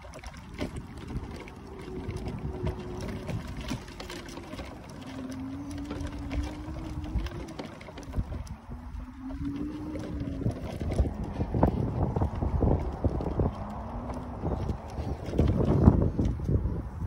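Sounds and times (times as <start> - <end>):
electric scooter motor whining: 0.0 - 16.8
knocks and rattles from riding: 0.0 - 16.9
wind on microphone: 0.0 - 17.0.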